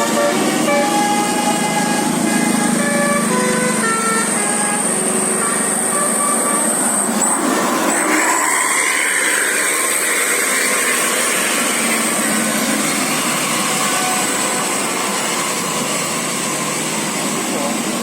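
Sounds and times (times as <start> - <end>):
bus passing: 0.0 - 18.0
thin high whine: 0.0 - 18.0.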